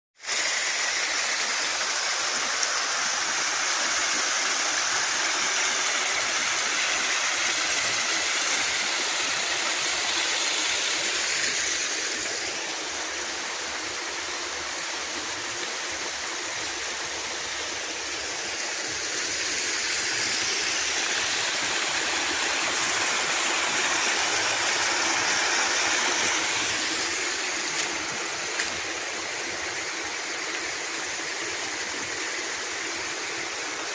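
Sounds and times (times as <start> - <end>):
water rushing over rocks: 0.2 - 33.9.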